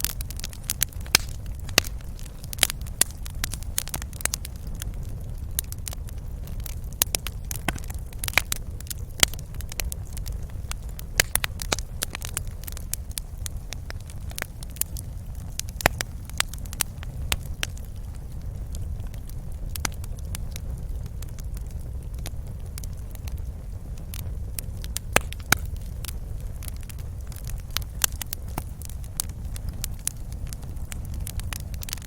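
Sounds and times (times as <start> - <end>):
low rumble of burning fire: 0.0 - 32.0
wood fire crackling and popping: 0.0 - 32.0.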